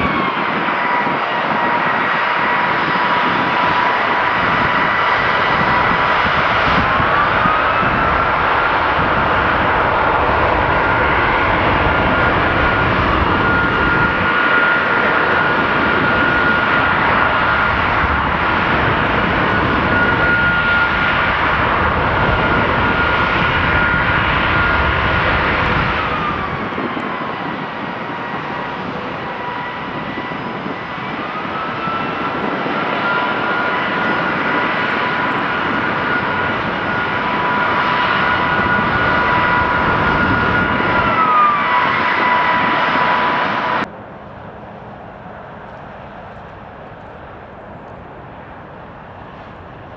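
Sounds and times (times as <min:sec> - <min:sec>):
jet engine rush and whine: 0:00.0 - 0:49.9.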